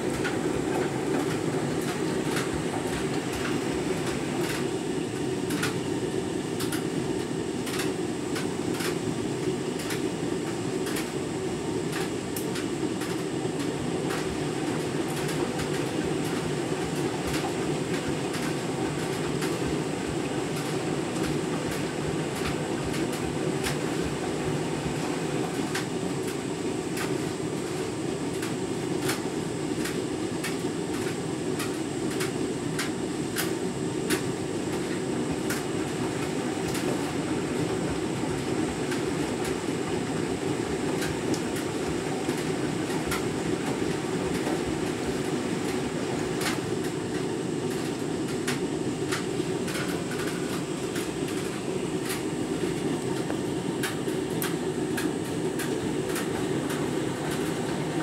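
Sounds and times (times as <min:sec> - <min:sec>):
washing machine churning: 0:00.0 - 0:58.0.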